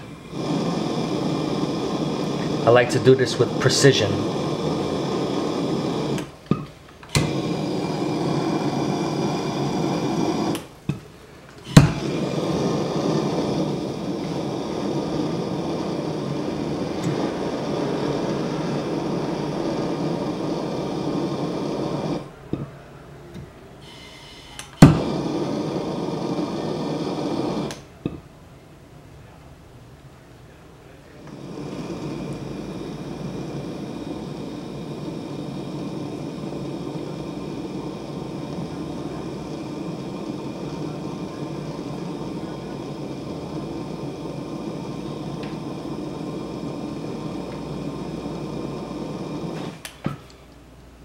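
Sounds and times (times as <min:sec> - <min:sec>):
gas torch hissing: 0:00.0 - 0:28.3, 0:30.9 - 0:51.0
torch igniter click: 0:03.5 - 0:11.0, 0:11.6 - 0:22.6, 0:24.5 - 0:28.2, 0:31.3 - 0:50.6.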